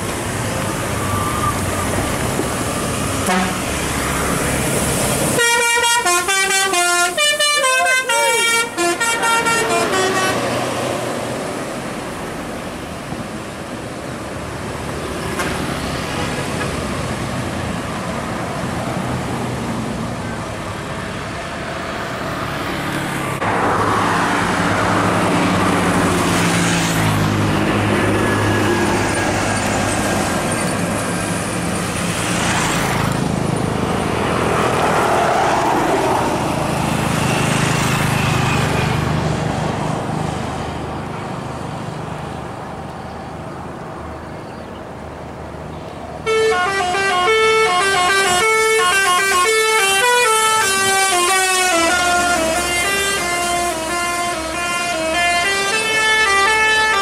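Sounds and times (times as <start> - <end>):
heavy vehicle engines running: 0.0 - 57.0
road traffic passing: 0.0 - 57.0.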